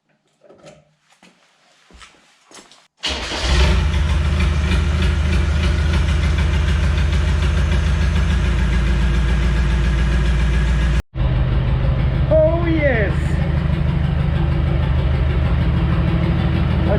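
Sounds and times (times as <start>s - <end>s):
diesel engine starting and idling: 3.0s - 16.9s.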